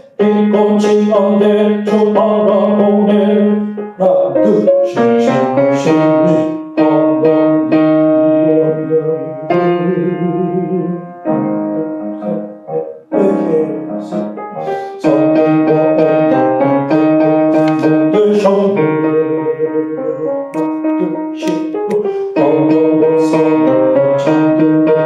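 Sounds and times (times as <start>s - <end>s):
piano playing sustained chords: 0.0s - 25.0s.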